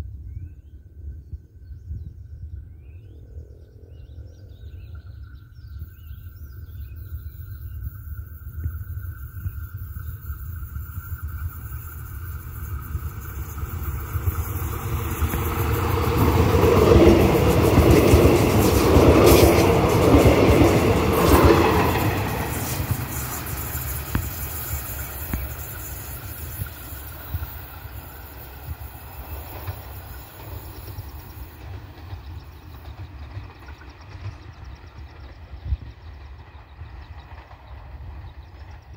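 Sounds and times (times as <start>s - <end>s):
diesel train rumbling: 7.7s - 38.9s.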